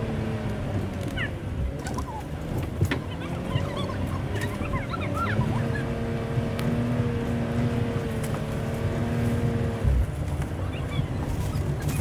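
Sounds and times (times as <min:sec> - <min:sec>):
truck engine revving high: 0:00.0 - 0:12.0.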